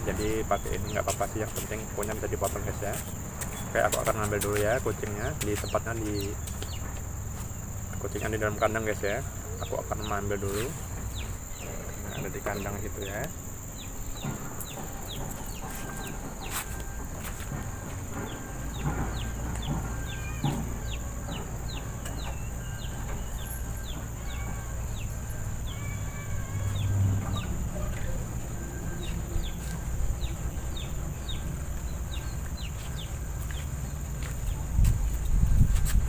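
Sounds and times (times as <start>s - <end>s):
birds chirping: 0.0s - 36.0s
high-pitched insect drone: 0.0s - 36.0s.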